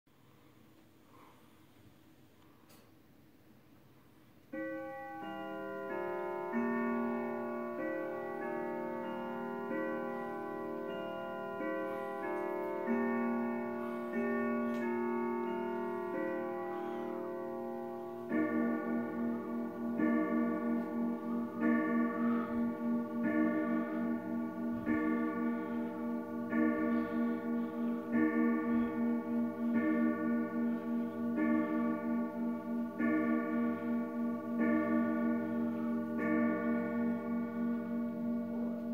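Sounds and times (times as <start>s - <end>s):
clock chime melody: 4.5s - 38.9s
clock striking deep notes: 4.5s - 38.9s.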